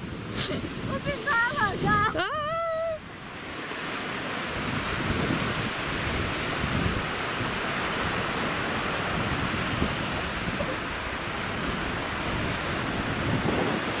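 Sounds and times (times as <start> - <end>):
waves washing onto sandy shore: 0.0 - 14.0
wind rumbling on microphone: 0.0 - 14.0.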